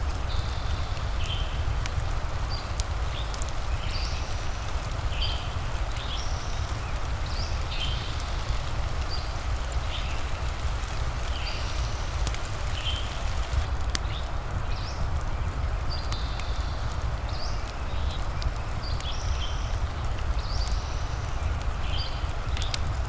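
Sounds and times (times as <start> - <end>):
faint crackles: 0.0 - 23.0
small birds chirping: 0.0 - 23.0
steady rain: 0.0 - 23.0.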